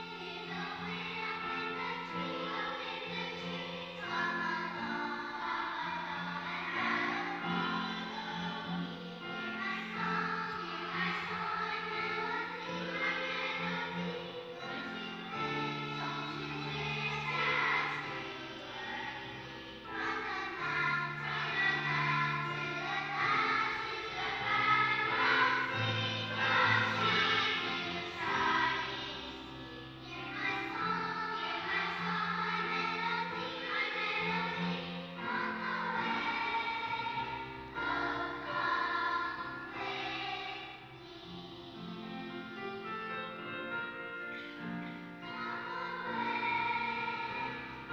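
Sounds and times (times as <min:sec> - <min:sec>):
children's choir singing: 0:00.0 - 0:47.9
low held accompaniment notes: 0:00.0 - 0:47.9.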